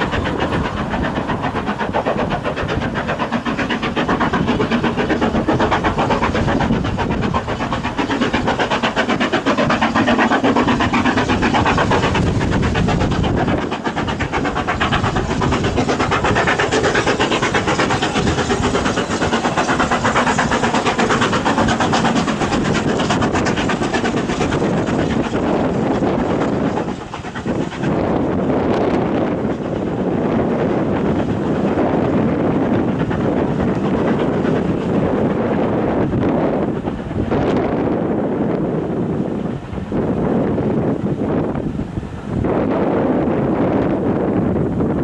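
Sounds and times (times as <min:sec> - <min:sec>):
rail noise: 0:00.0 - 0:45.0
steam locomotive exhaust beats: 0:00.0 - 0:45.0.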